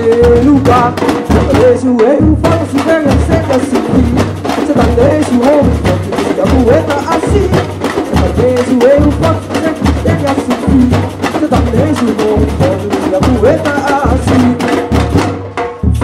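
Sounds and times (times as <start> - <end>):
bass drums beating: 0.0 - 16.0
snare drums: 0.0 - 16.0.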